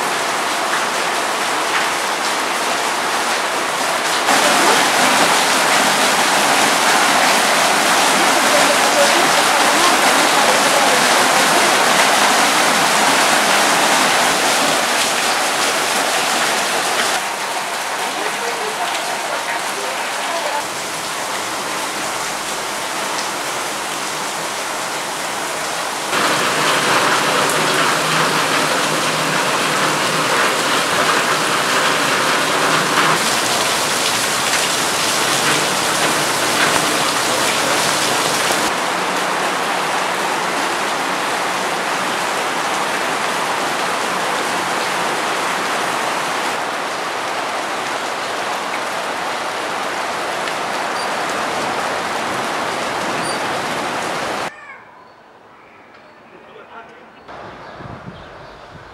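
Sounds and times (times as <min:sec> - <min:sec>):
rain falling on pavement and roofs: 0:00.0 - 0:54.6.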